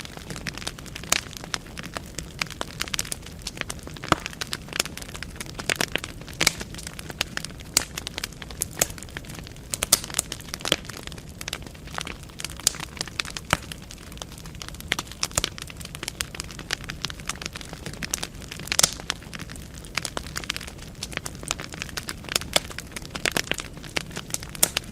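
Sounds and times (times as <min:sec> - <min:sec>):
logs crackling and popping: 0:00.0 - 0:24.9
low steady fire hiss: 0:00.0 - 0:24.9.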